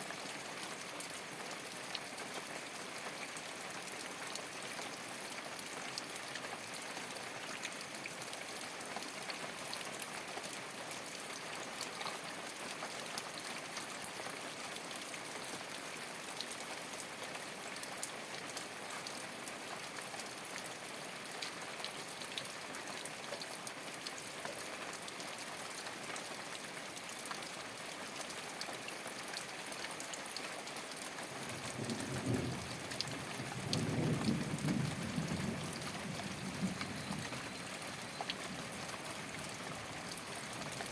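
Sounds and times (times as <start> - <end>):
rain on thatched roof: 0.0 - 40.9.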